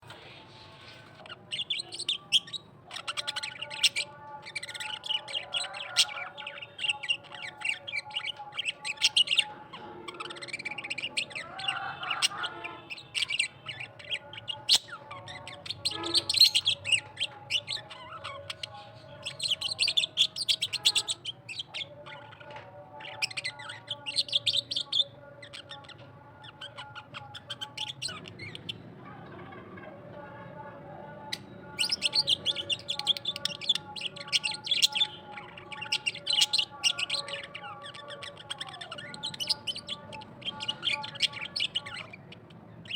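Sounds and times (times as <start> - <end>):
parrot chirping and warbling: 0.0 - 42.9.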